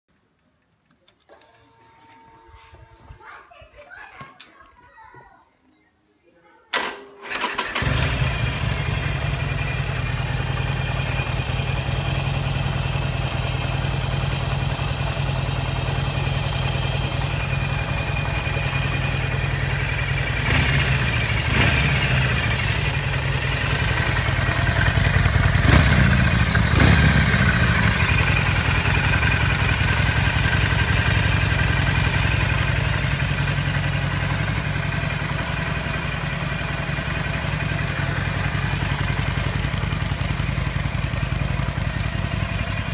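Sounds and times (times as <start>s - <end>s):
motorcycle engine idling: 7.3s - 42.9s
motorcycle engine revving: 7.3s - 42.9s.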